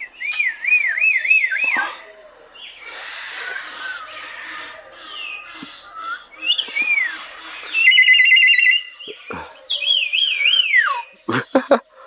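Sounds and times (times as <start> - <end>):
bird whistles: 0.0 - 2.0, 2.7 - 11.2
rapid warbling bird trill: 0.0 - 11.8.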